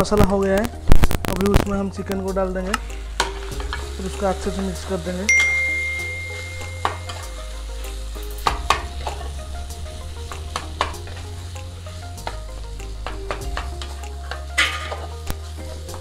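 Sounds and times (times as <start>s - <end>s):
chicken sizzling in a pan: 0.9s - 16.0s.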